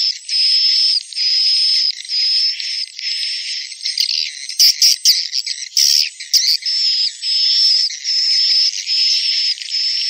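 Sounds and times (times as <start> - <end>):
recorded bird chirping calls: 0.0 - 10.0.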